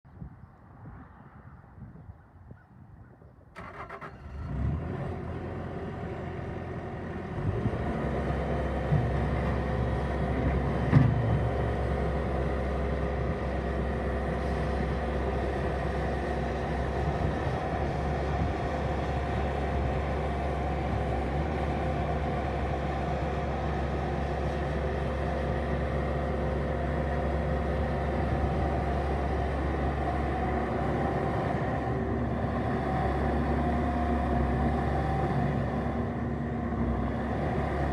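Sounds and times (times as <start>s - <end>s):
diesel engine running: 3.6s - 37.9s.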